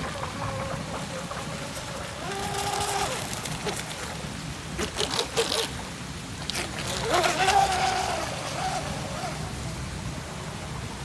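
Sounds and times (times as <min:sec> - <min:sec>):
hull slapping water: 0:00.0 - 0:10.3.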